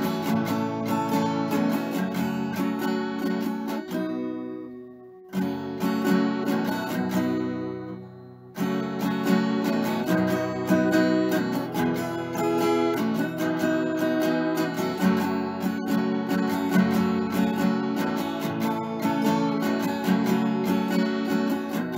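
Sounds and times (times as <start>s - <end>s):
acoustic guitar strumming chords: 0.0s - 21.9s.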